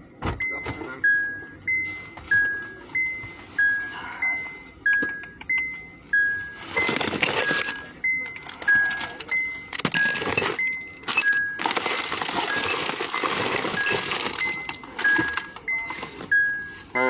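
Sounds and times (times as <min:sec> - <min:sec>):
two-tone electronic warning chime: 0:00.4 - 0:17.0.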